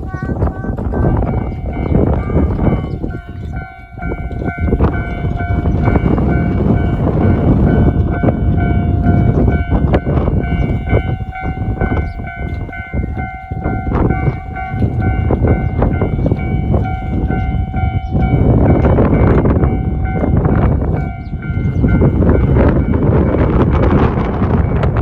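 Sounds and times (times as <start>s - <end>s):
crossing warning bell ringing: 0.0s - 25.0s
train wheels clicking on rails: 0.0s - 25.0s
wind buffeting microphone: 0.0s - 25.0s.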